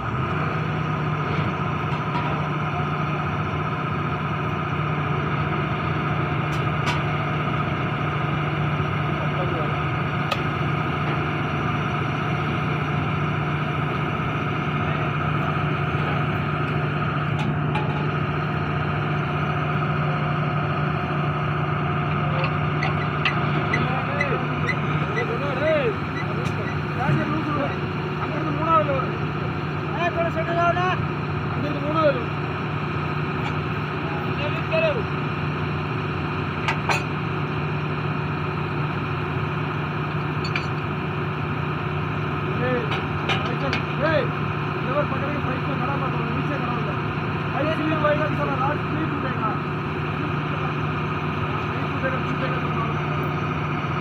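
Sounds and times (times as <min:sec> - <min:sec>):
heavy engine droning: 0:00.0 - 0:54.0.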